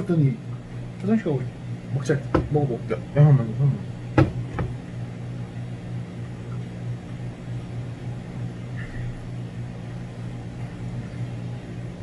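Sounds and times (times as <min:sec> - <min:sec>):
appliance electrical hum: 0:00.0 - 0:12.0.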